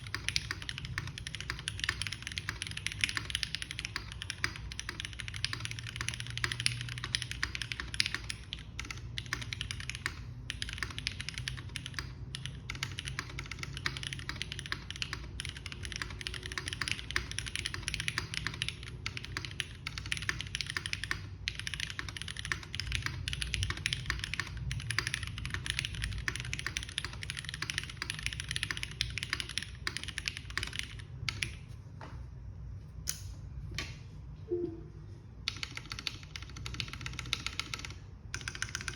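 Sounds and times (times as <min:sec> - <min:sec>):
mechanical keyboard typing: 0:00.0 - 0:31.7, 0:35.4 - 0:38.9.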